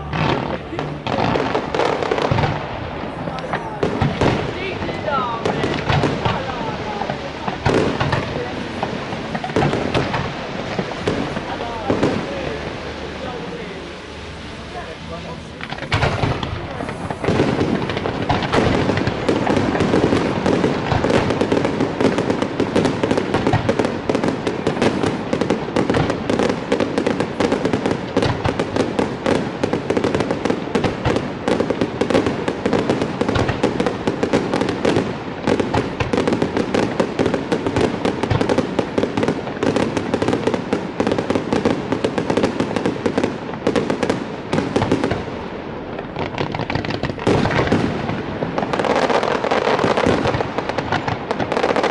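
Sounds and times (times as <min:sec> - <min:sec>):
fireworks bangs and crackling: 0:00.0 - 0:51.9.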